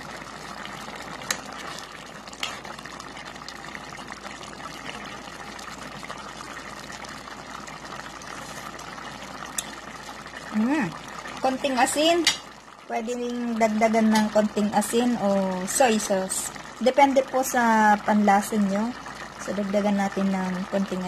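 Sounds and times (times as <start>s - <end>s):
stew bubbling in a pot: 0.0s - 21.0s.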